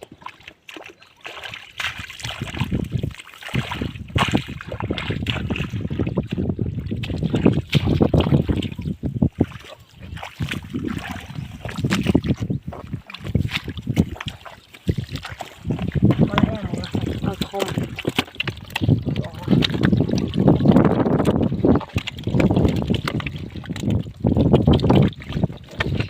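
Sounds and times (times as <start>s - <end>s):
hands splashing through shallow water: 0.0s - 26.0s.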